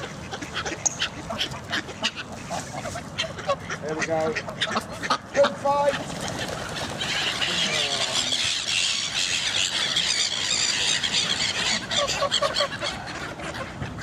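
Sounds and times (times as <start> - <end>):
birds squealing chatter: 0.0 - 14.0.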